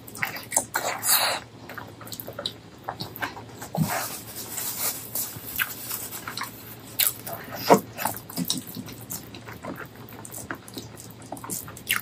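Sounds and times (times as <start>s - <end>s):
person chewing wetly: 0.0s - 12.0s.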